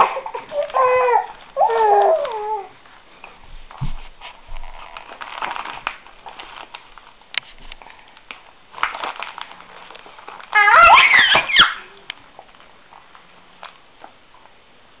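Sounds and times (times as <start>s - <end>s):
paper pages crinkling: 0.0s - 13.8s.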